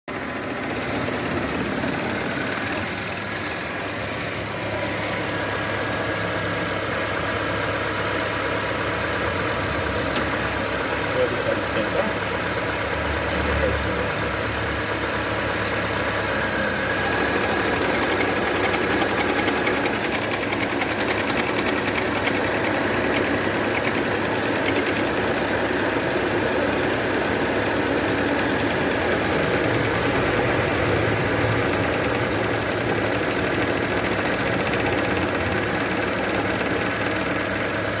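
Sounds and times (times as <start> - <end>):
car engine idling: 0.1 - 38.0.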